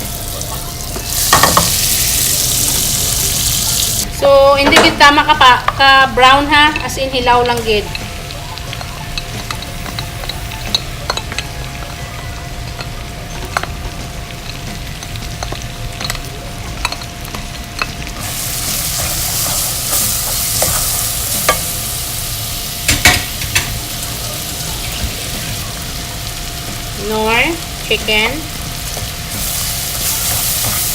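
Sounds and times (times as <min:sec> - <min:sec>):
garlic sizzling in butter: 0:00.0 - 0:04.3, 0:05.0 - 0:30.9.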